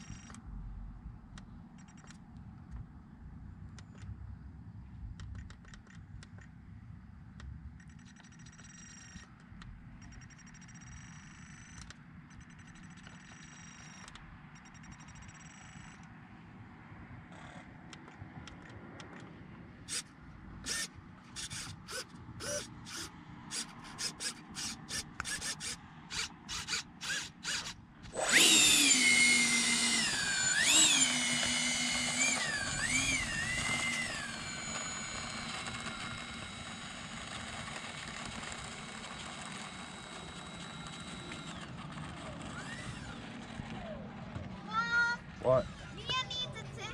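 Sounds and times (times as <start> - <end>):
electric ducted fans whining: 0.0 - 46.9.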